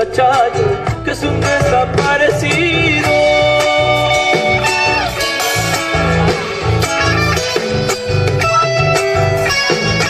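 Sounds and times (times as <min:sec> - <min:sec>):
guitars playing melody: 0:00.0 - 0:10.0
pulsing bass line: 0:00.0 - 0:10.0.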